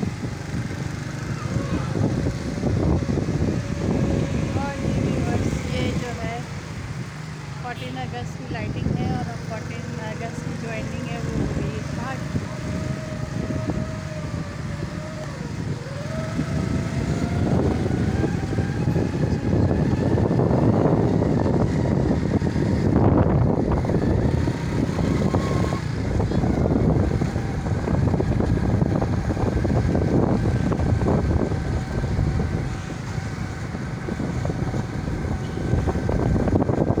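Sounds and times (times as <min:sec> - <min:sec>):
vehicle engine and road noise: 0:00.0 - 0:37.0
wind buffeting microphone: 0:00.0 - 0:37.0.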